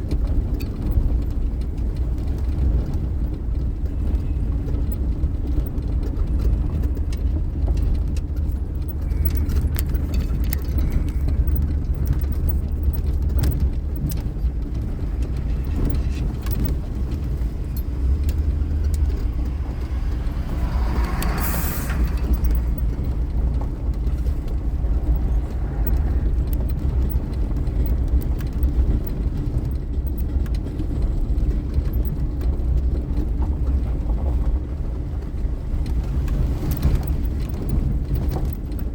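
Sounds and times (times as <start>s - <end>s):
car rumbling in motion: 0.0s - 38.9s.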